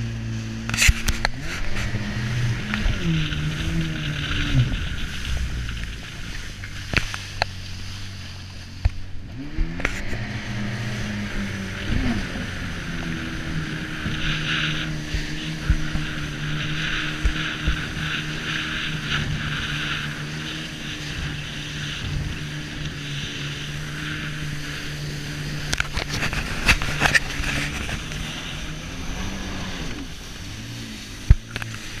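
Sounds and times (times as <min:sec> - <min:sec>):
jet ski engine running: 0:00.0 - 0:32.0
water rushing past: 0:00.0 - 0:32.0.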